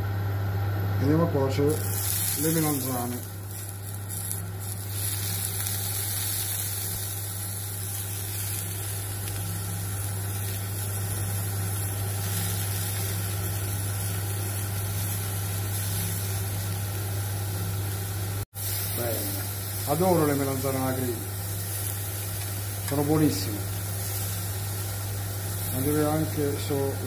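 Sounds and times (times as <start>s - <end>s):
constant low hum: 0.0s - 27.0s
vegetables sizzling on grill pan: 1.8s - 27.0s.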